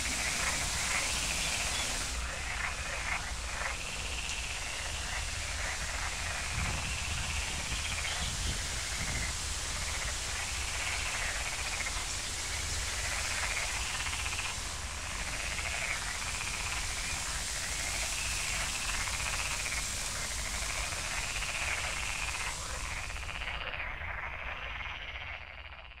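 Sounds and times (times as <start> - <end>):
steady hiss: 0.0 - 25.5
frogs croaking: 0.0 - 26.0.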